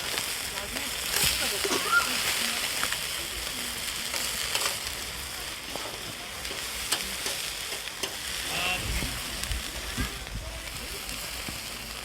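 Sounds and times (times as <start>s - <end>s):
food sizzling on hot surface: 0.0s - 12.0s.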